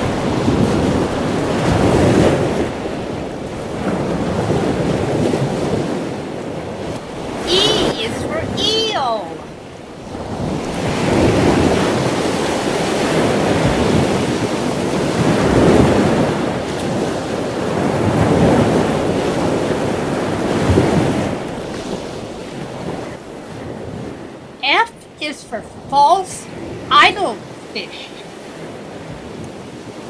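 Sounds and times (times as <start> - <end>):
ocean waves surf: 0.0 - 30.0.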